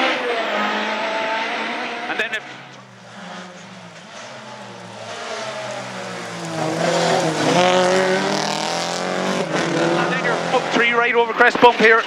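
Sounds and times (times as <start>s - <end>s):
car engine from inside cabin: 0.8s - 10.7s.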